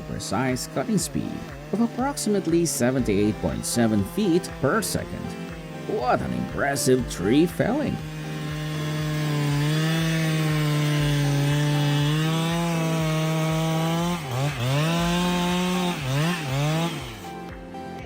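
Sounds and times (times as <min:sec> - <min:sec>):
chainsaw cutting: 0:00.0 - 0:18.0.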